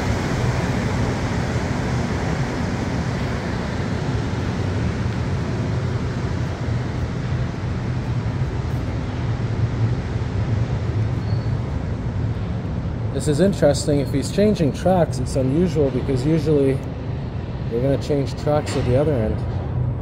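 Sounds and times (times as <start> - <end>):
metro train rumble and hiss: 0.0 - 20.0.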